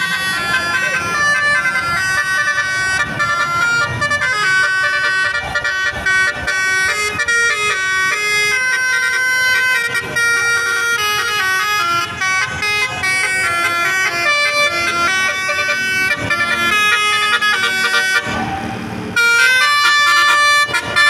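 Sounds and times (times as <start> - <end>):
musical bus air horn melody: 0.0 - 21.0.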